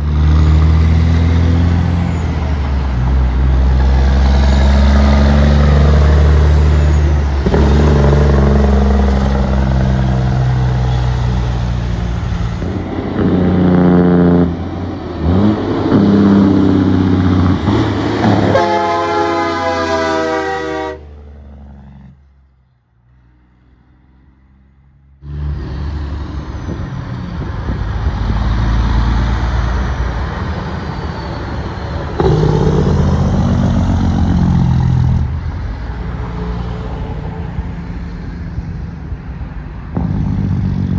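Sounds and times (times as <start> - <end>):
diesel truck engines accelerating: 0.0 - 40.9.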